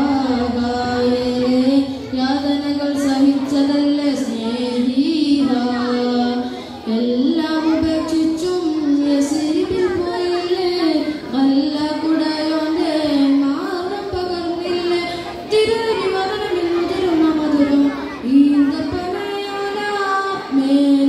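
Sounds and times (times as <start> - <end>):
boy singing into microphone: 0.0 - 21.0.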